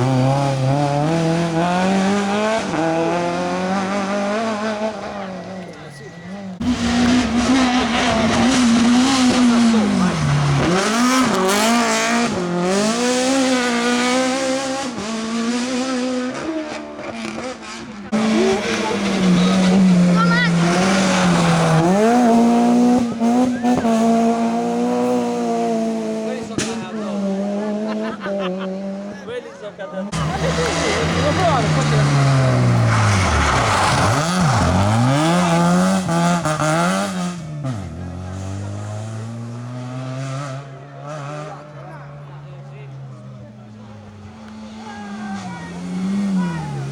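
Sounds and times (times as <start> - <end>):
rally car engine at high revs: 0.0 - 46.9
tyres skidding: 0.0 - 46.9.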